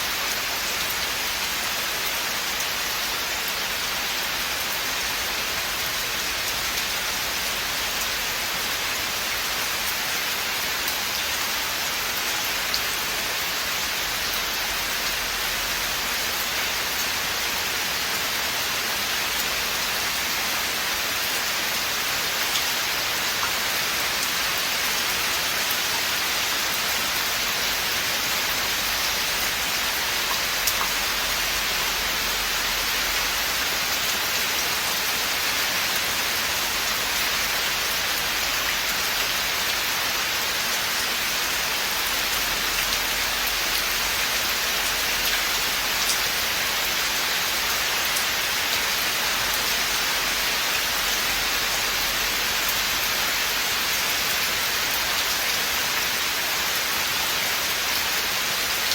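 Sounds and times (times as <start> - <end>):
rain falling in a forest: 0.0 - 58.9.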